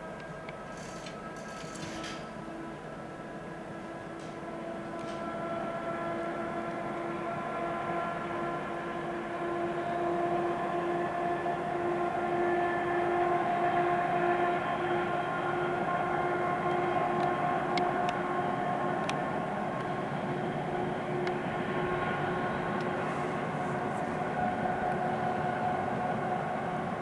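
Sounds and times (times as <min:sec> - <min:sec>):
distant locomotive engine droning: 0:00.0 - 0:27.0.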